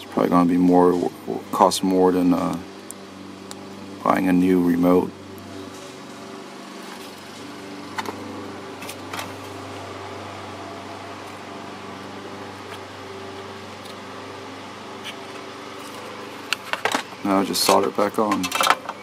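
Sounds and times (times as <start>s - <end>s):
small electric fan humming: 0.0s - 19.0s.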